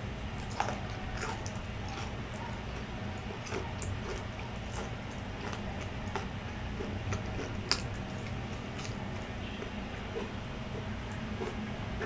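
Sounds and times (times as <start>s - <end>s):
chewing food close up: 0.0s - 12.0s.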